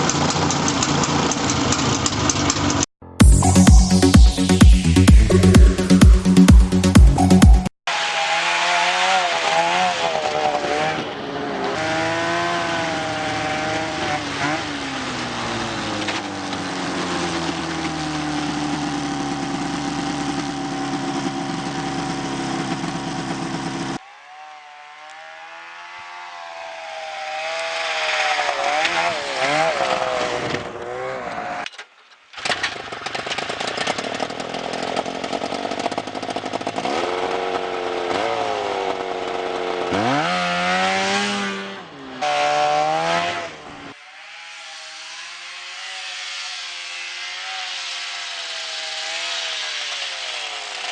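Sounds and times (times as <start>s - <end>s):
snowmobile engines revving: 0.0s - 31.7s, 33.5s - 50.9s.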